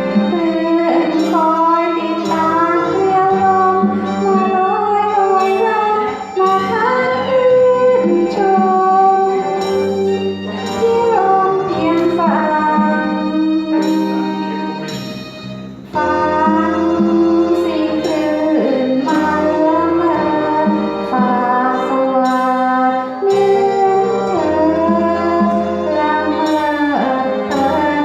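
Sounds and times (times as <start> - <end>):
woman singing: 0.0 - 14.8, 16.0 - 28.0
instrumental accompaniment: 0.0 - 28.0.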